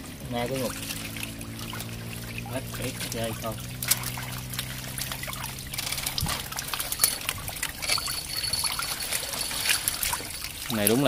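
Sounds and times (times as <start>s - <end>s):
low steady hum: 0.0s - 11.0s
water trickling and pouring: 0.0s - 11.0s.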